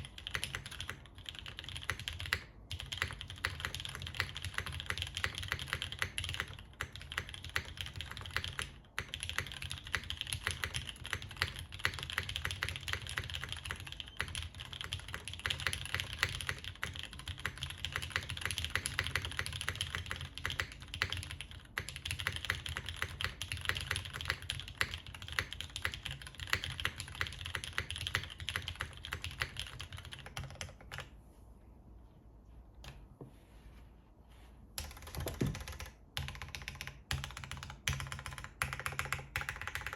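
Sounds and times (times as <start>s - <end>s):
fast typing on mechanical keyboard: 0.0s - 31.1s, 34.8s - 39.9s.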